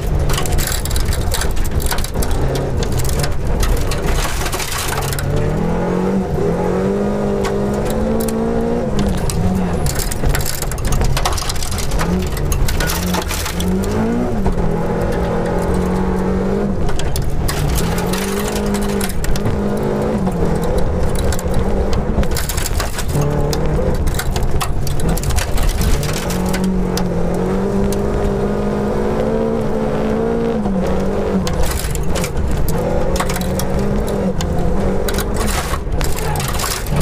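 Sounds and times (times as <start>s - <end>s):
gravel clattering on underbody: 0.0s - 37.0s
rally car engine revving: 0.0s - 37.0s.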